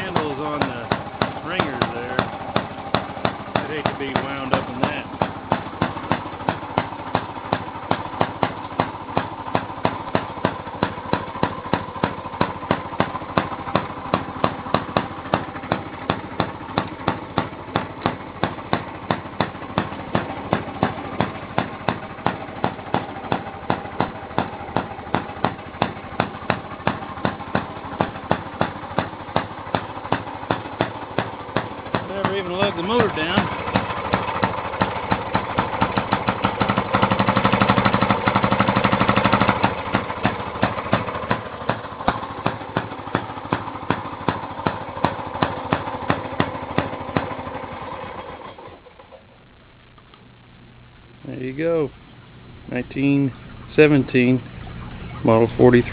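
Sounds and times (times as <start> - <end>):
small engine exhaust pops: 0.0 - 55.9
washing machine drone: 0.0 - 55.9.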